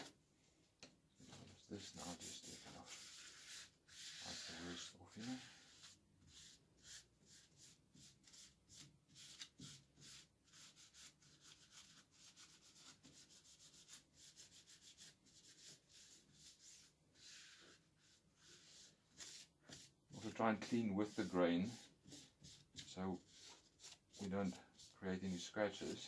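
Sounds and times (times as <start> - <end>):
cloth wiping metal: 1.2 - 8.0, 9.1 - 26.0.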